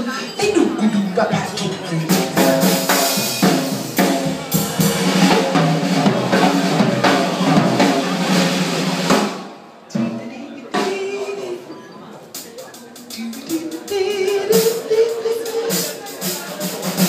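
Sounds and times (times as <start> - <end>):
live band playing: 0.0 - 17.0
drum and cymbal hits: 1.4 - 11.3, 12.4 - 17.0.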